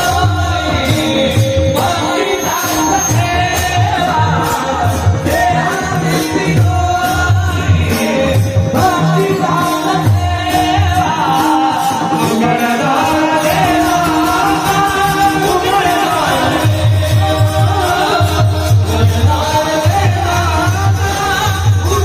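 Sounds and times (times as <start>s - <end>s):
steady drum beat: 0.0s - 22.0s.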